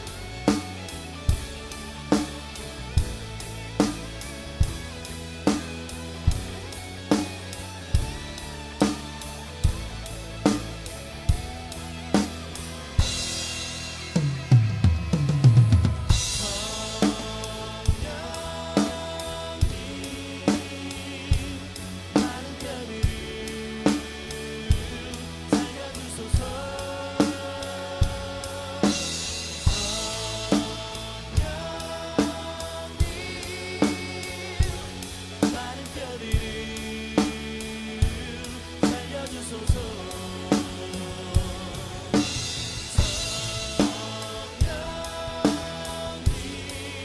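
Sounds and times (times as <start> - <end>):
drum kit groove: 0.0 - 47.0
music with sung melody: 0.0 - 47.0.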